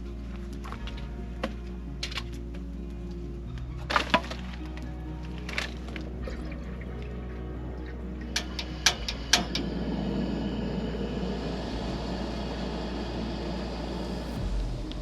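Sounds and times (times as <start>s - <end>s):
campfire crackling: 0.0s - 15.0s
low rushing noise: 0.0s - 15.0s.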